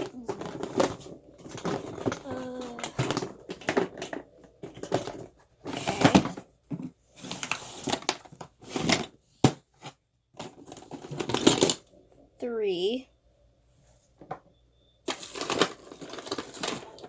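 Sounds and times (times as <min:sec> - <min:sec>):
plastic toys rustling and clattering: 0:00.0 - 0:12.4, 0:13.8 - 0:17.0.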